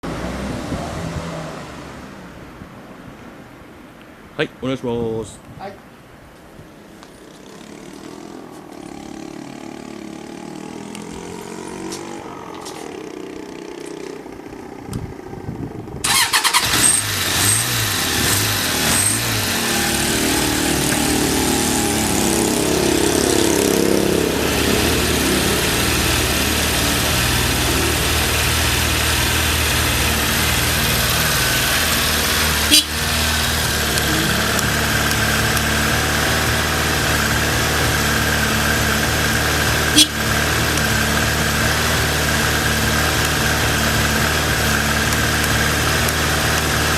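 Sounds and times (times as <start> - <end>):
motorcycle engine starting and idling: 7.2 - 46.9.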